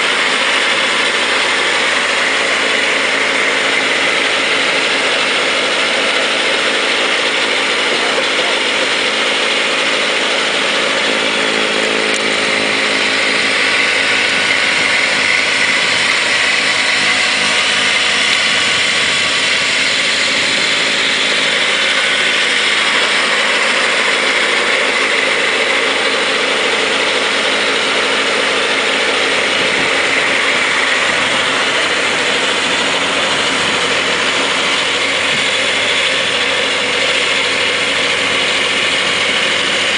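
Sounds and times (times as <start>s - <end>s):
snowblower throwing snow: 0.0s - 39.9s
tractor diesel engine running: 0.0s - 39.9s.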